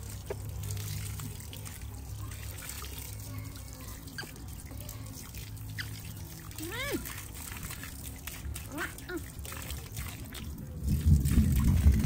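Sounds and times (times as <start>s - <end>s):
water running from a tap: 0.0s - 12.0s
water splashing on ground: 0.0s - 12.0s.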